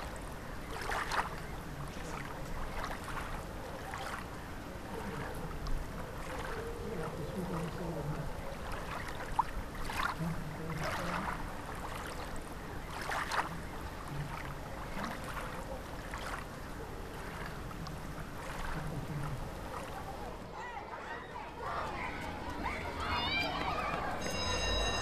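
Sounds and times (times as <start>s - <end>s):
water lapping around boat: 0.0s - 25.0s.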